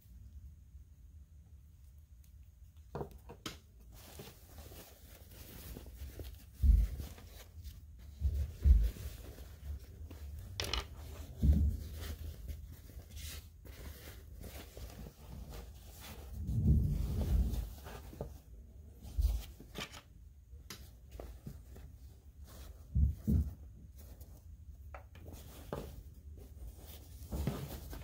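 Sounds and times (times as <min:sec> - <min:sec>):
cloth rustling and crumpling: 0:03.8 - 0:20.2, 0:20.8 - 0:28.0.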